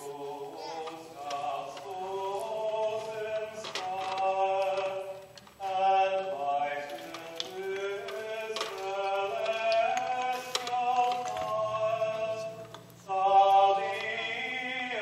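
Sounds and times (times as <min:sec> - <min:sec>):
clergy singing chant: 0:00.0 - 0:15.0.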